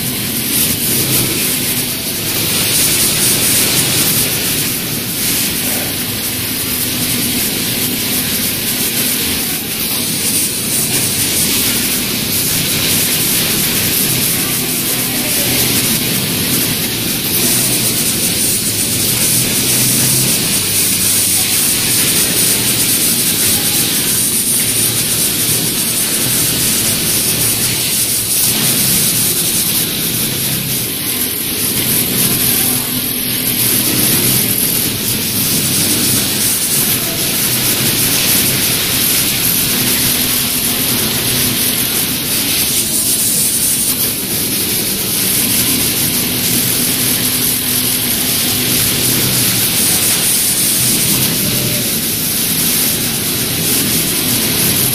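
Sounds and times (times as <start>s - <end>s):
industrial sewing machines running: 0.0s - 54.9s.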